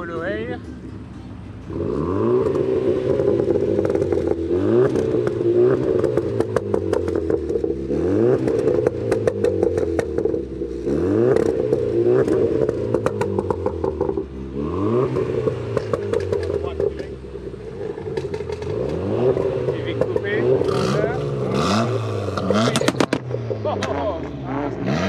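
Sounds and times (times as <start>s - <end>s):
car engine revving: 0.0s - 25.0s
exhaust pops and crackles: 1.7s - 25.0s.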